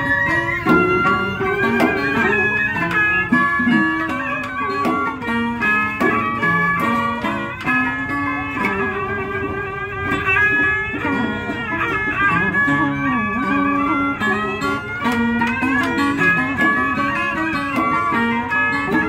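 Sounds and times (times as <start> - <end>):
bowed two-string fiddle: 0.0 - 19.0
guitar: 0.0 - 19.0
plucked lute: 0.0 - 19.0.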